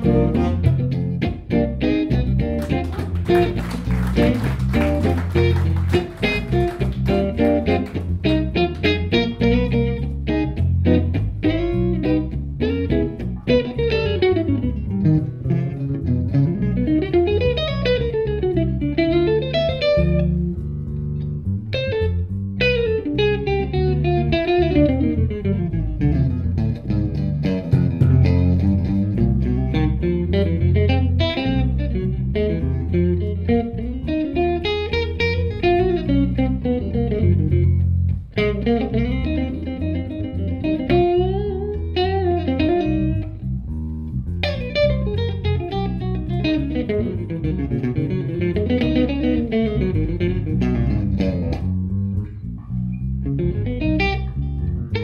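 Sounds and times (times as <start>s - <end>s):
bass guitar line: 0.0s - 55.0s
electric guitar jazz solo: 0.0s - 55.0s.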